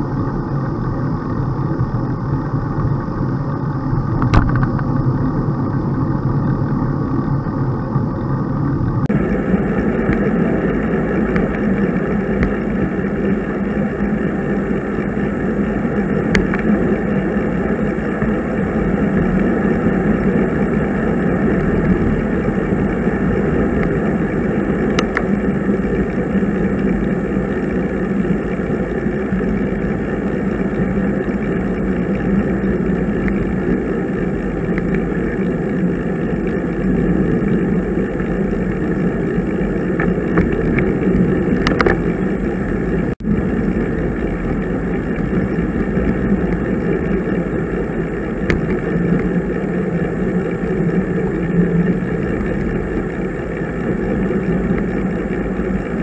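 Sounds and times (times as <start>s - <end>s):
bicycle road noise: 0.0s - 56.0s
wind rush on microphone: 0.0s - 56.0s.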